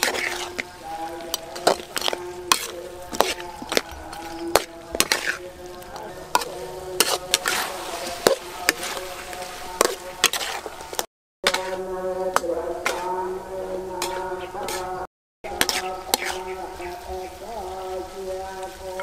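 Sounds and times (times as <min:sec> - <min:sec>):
metal spatula scraping a wok: 0:00.0 - 0:19.0.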